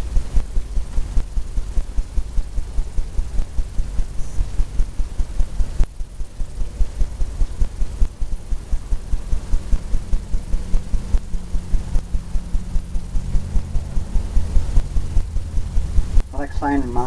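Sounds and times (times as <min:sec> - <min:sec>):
pulsing low rumble: 0:00.0 - 0:17.0.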